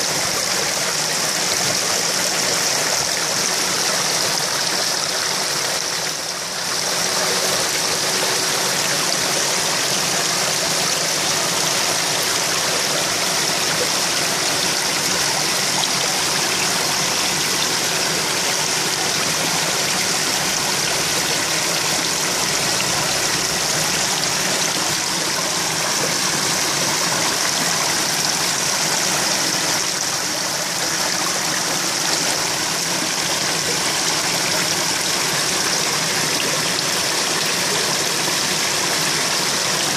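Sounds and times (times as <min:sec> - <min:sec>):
pond water running and splashing: 0:00.0 - 0:39.9.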